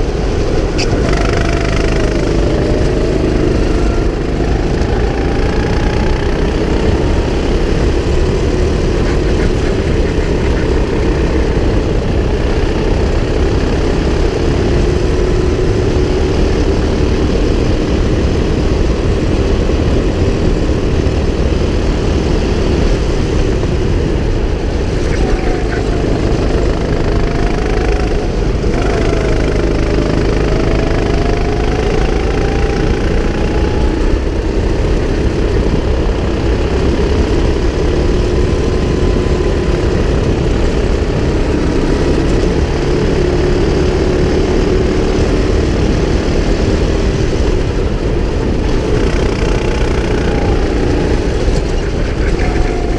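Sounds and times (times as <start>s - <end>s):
go-kart engine running: 0.0s - 52.9s.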